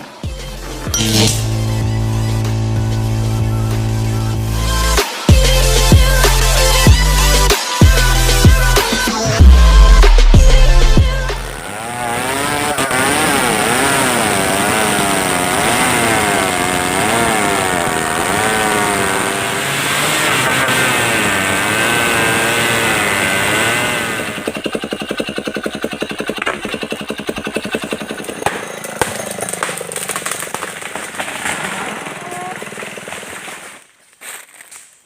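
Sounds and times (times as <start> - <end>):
chainsaw running at high revs: 0.0 - 33.4.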